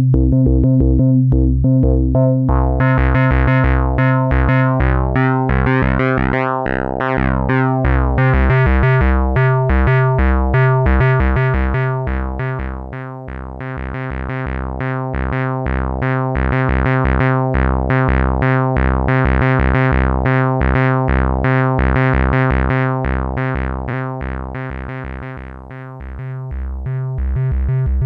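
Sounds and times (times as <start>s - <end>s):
synthesizer bass pattern: 0.0s - 28.0s.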